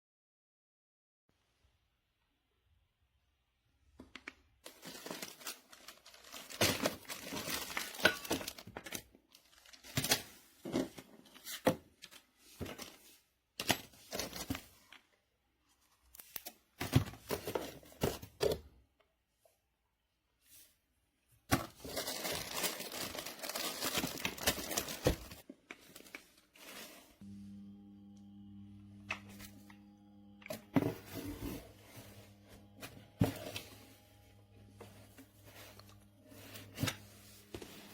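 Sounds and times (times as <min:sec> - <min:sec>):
crinkling and rustling: 0:03.9 - 0:18.7, 0:20.4 - 0:27.2, 0:28.9 - 0:37.9.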